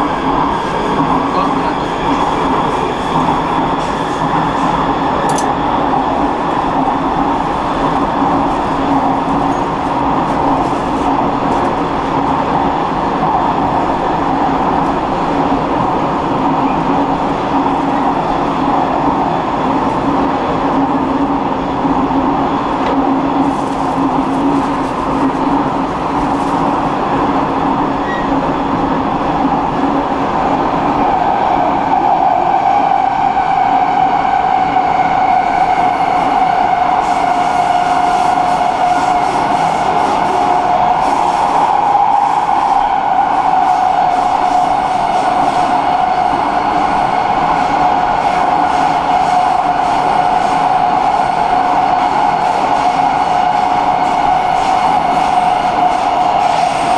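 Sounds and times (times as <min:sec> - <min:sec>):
train wheels and motors rumbling: 0:00.0 - 0:56.9.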